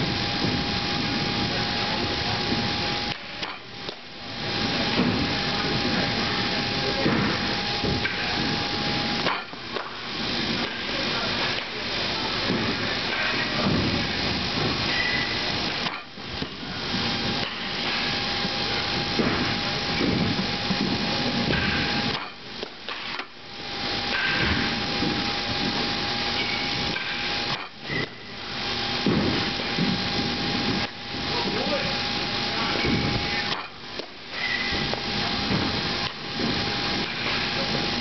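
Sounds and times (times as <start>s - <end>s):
machine hiss: 0.0s - 38.0s.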